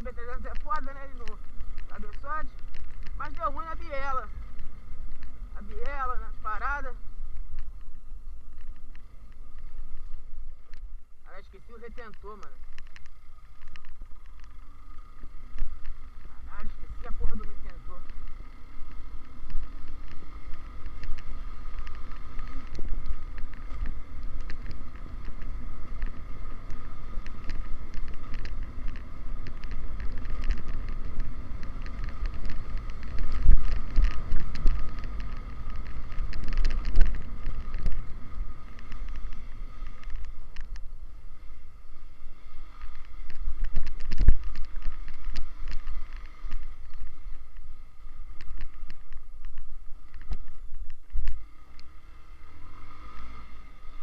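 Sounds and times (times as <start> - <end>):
motorcycle running: 0.0 - 54.0.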